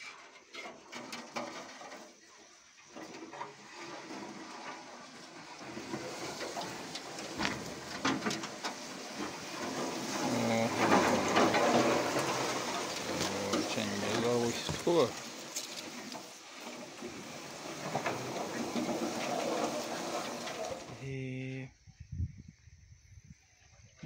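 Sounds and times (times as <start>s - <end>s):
reeds scraping against boat hull: 0.0s - 21.2s.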